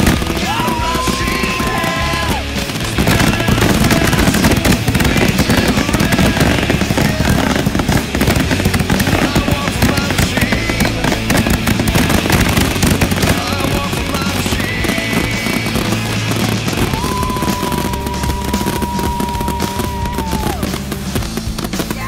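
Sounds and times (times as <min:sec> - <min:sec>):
background music: 0:00.0 - 0:22.0
fireworks popping and crackling: 0:00.0 - 0:22.0.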